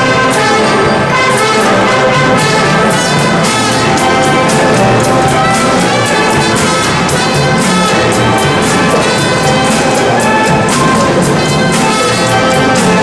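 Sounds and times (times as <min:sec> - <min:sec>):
brass sustaining chords: 0:00.0 - 0:13.0
drum strokes: 0:00.0 - 0:13.0.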